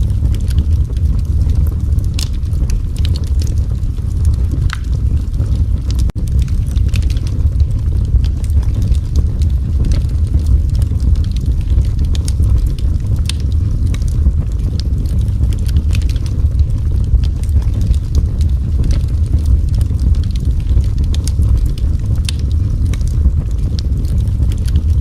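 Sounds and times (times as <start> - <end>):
fire crackling and popping: 0.0 - 25.0
wood fire roaring: 0.0 - 25.0.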